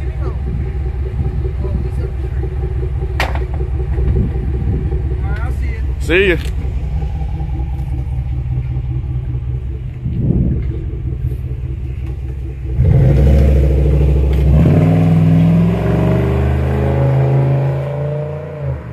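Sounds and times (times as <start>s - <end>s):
car accelerating away: 0.0s - 18.9s
car exhaust idling and revving: 0.0s - 18.9s.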